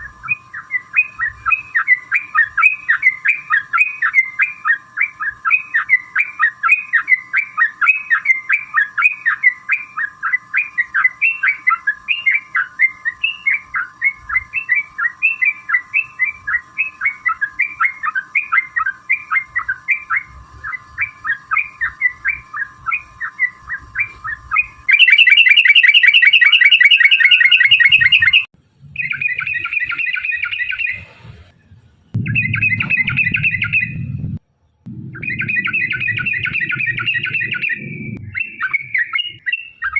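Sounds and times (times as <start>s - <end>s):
bird chirping: 0.0s - 31.1s, 32.2s - 39.9s
rapid rattling bird trill: 0.0s - 31.2s, 32.2s - 34.0s, 35.2s - 39.9s.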